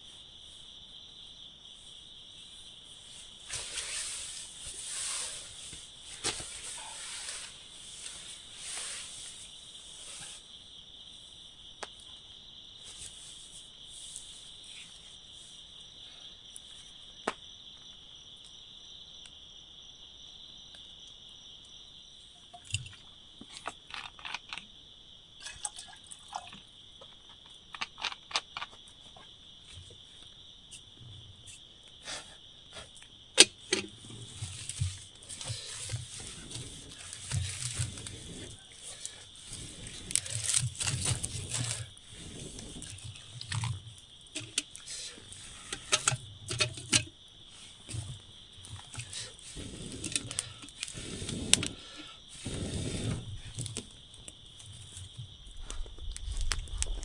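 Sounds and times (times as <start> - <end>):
chorus of insects: 0.0 - 57.0.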